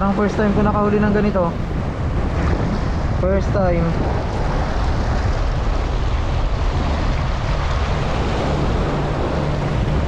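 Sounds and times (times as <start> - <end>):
sea waves: 0.0 - 10.0
wind on microphone: 0.0 - 10.0.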